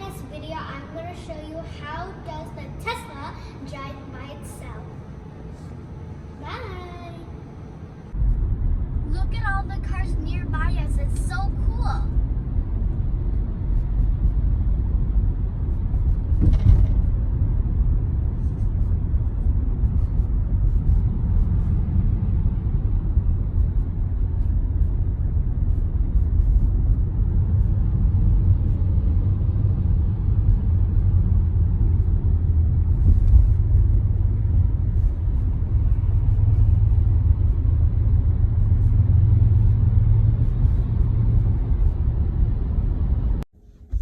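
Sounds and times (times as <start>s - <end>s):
road and tyre rumble: 0.0s - 44.0s.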